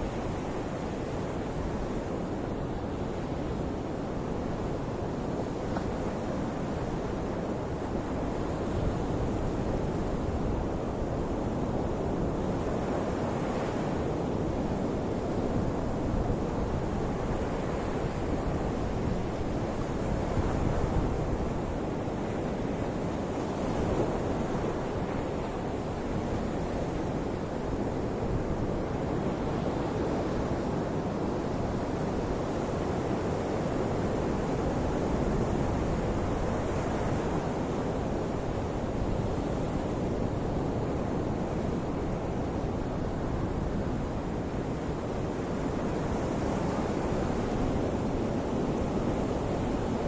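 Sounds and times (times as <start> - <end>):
ocean waves washing on shore: 0.0 - 50.0
wind noise on microphone: 0.0 - 50.0.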